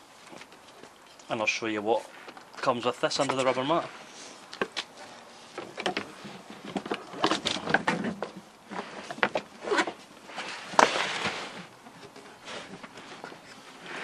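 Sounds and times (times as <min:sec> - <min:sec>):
rubber mat scraping and rustling: 0:01.9 - 0:14.0.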